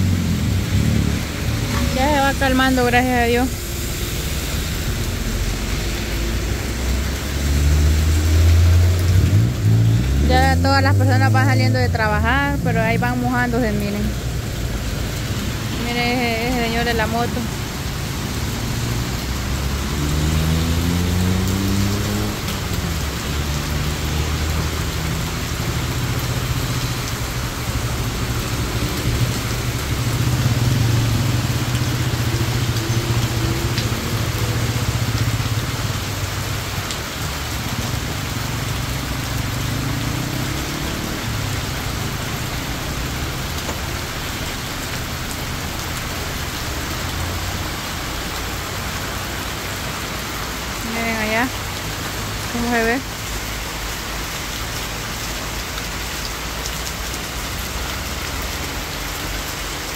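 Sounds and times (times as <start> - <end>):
heavy rain on a paved road: 0.0 - 59.9
vehicles driving through water: 0.0 - 59.9.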